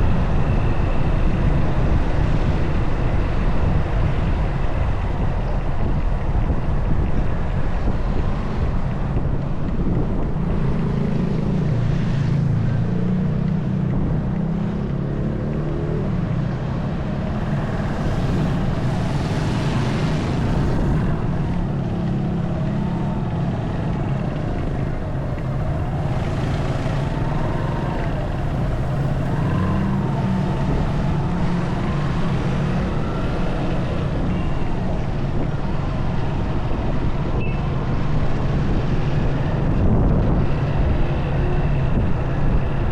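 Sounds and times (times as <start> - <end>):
wind noise on microphone: 0.0 - 42.9.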